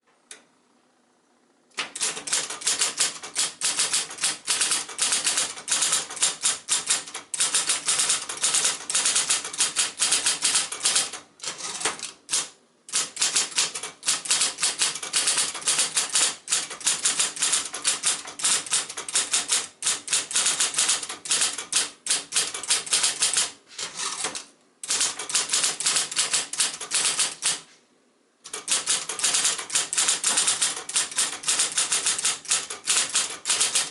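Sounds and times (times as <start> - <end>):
electric typewriter typing: 1.7 - 27.7, 28.4 - 33.9.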